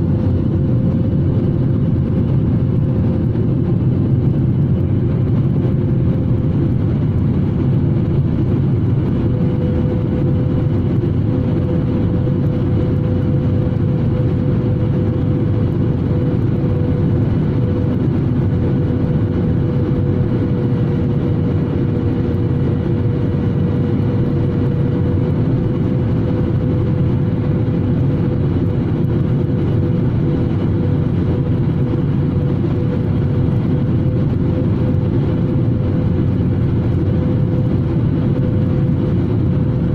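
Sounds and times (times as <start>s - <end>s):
engines and rushing air rumble: 0.0s - 39.9s.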